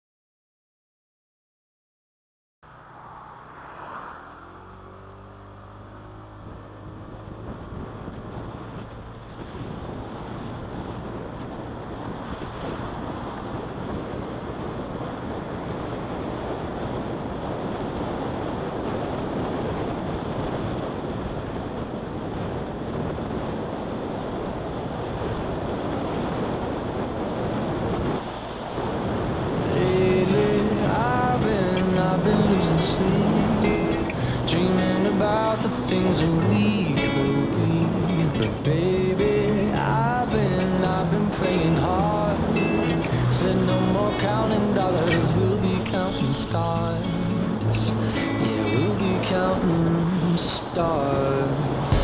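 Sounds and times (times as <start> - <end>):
low engine hum: 2.6 - 52.0
wind rush and road noise: 2.6 - 52.0.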